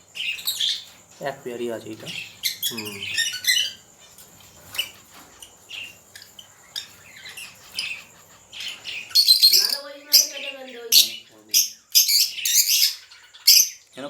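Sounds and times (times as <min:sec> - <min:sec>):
lovebirds chirping and squawking: 0:00.0 - 0:14.0.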